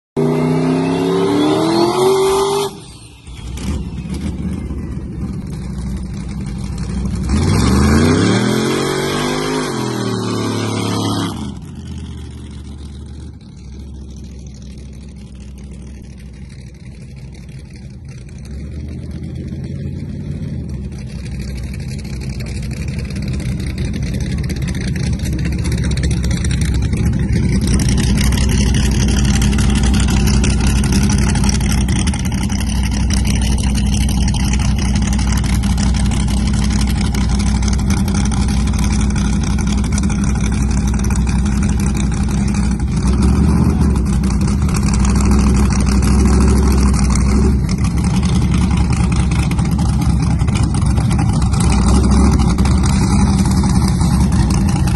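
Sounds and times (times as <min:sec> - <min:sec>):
drag racing engines idling: 0:02.6 - 0:54.9.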